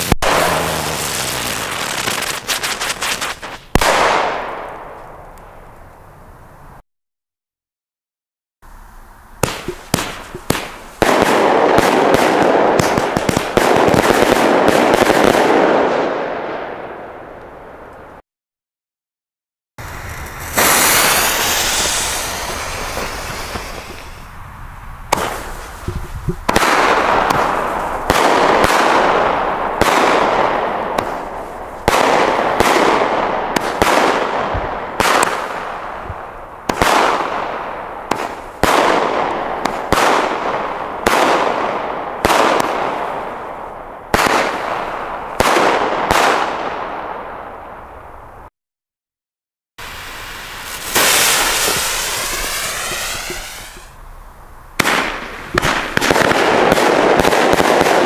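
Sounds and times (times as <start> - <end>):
firework bangs: 0.0 - 5.6, 9.4 - 18.0, 19.8 - 47.6, 49.8 - 54.0, 54.8 - 58.0.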